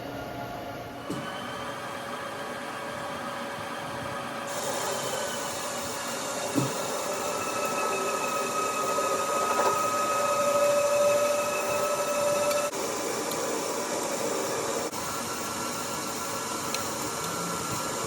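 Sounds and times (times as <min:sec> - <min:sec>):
lathe turning steel whine: 0:01.2 - 0:18.0.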